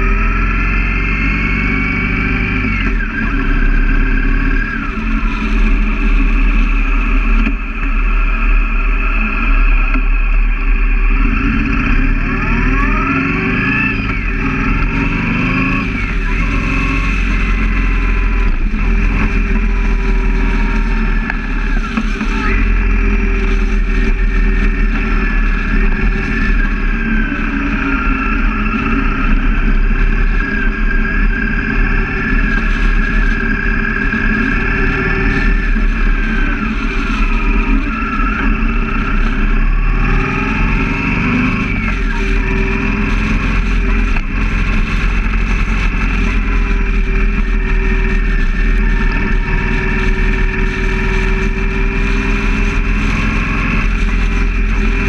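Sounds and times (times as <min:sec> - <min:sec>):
motorcycle engine running: 0:00.0 - 0:55.0
wind rumble on microphone: 0:00.0 - 0:55.0.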